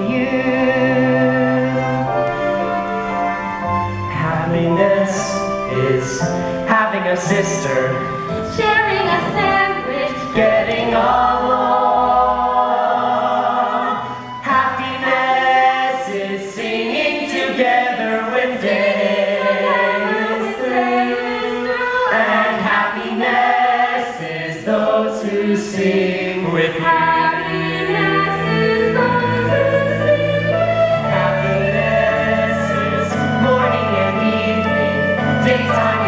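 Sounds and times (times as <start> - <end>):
instrumental accompaniment: 0.0 - 36.0.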